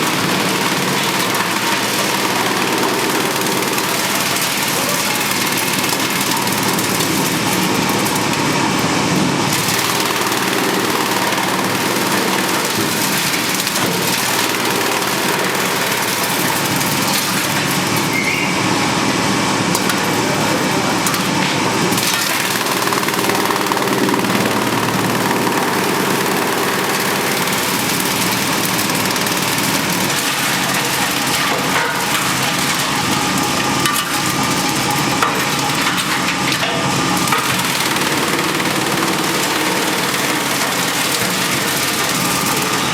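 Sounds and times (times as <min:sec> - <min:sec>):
wood chipper running: 0:00.0 - 0:42.9.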